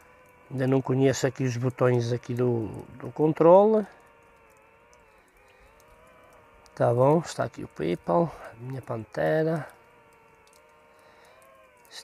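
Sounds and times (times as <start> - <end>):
faint multi-tone whine: 0.0 - 12.0.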